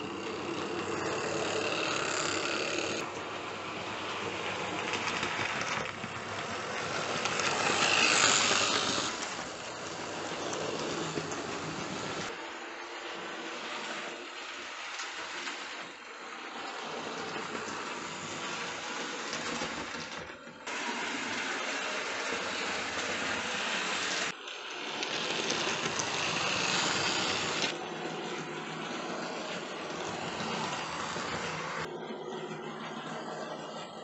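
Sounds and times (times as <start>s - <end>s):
model train wheels on track: 0.0s - 34.0s.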